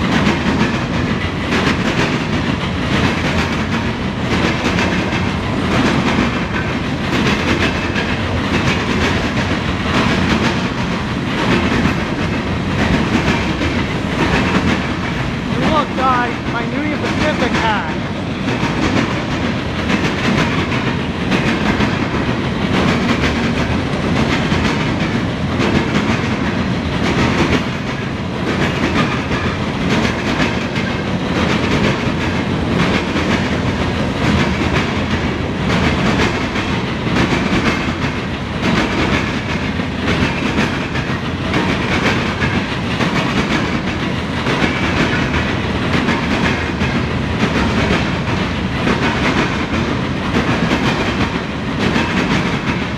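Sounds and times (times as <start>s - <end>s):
freight train wheels rumbling: 0.0s - 52.9s
wheels clacking over rail joints: 0.0s - 52.9s.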